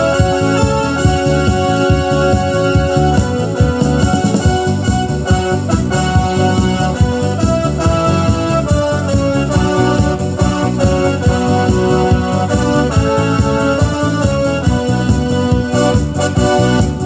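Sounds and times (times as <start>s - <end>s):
electronic keyboard melody: 0.0s - 17.0s
rhythmic bass accompaniment: 0.0s - 17.0s.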